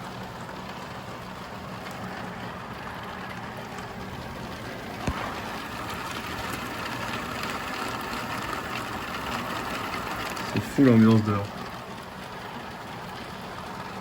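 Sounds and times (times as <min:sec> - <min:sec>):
rain: 0:00.0 - 0:14.0.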